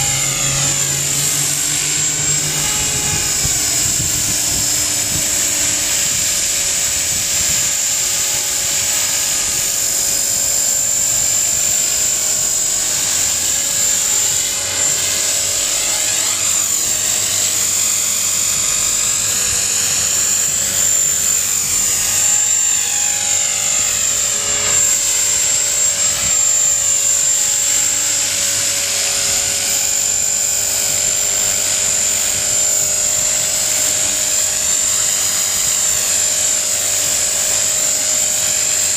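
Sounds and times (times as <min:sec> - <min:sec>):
helicopter rotor noise: 0:00.0 - 0:38.9
rc helicopter motor whine: 0:00.0 - 0:38.9.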